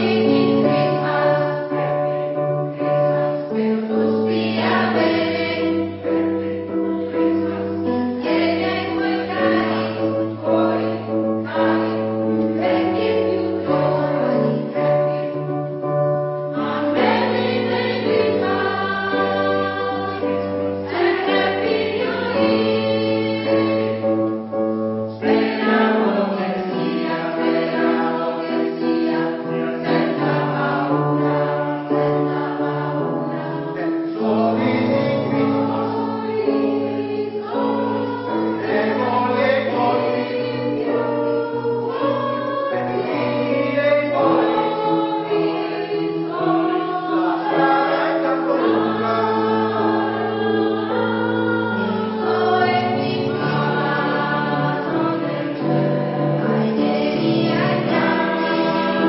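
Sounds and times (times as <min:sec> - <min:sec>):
choir singing sustained chords: 0:00.0 - 0:59.0.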